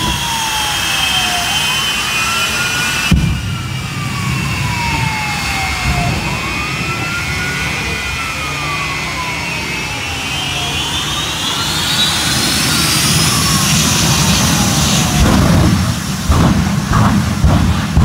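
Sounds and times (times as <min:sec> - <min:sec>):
jet engine turbine whine: 0:00.0 - 0:18.0
wailing siren: 0:00.0 - 0:18.0.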